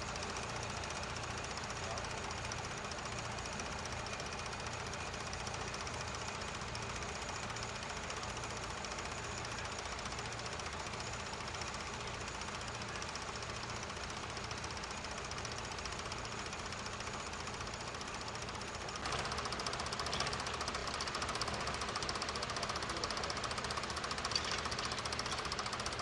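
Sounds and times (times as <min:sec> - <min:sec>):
tractor engines running: 0:00.0 - 0:26.0.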